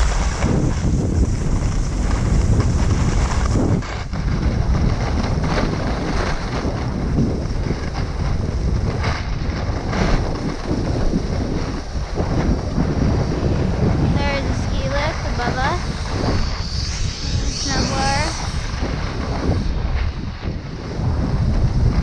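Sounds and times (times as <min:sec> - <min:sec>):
skis sliding over snow: 0:00.0 - 0:22.0
wind buffeting microphone: 0:00.0 - 0:22.0.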